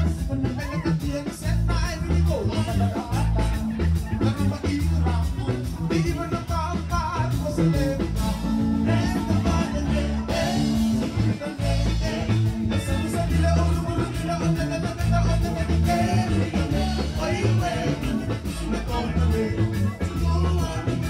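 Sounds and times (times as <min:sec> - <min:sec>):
heavy bass line: 0:00.0 - 0:21.0
men singing: 0:00.0 - 0:21.0
steady beat: 0:00.0 - 0:21.0.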